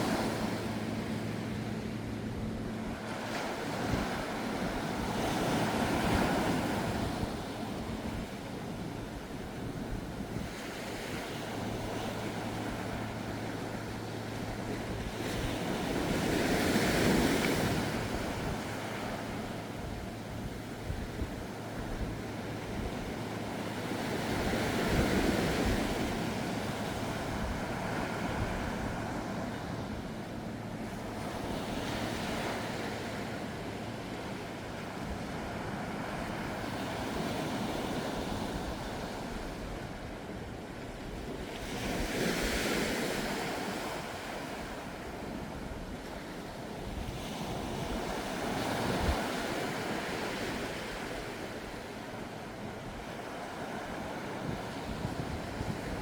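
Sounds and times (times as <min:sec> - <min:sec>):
ocean waves washing onto shore: 0:00.0 - 0:56.0
wind on microphone: 0:00.0 - 0:56.0.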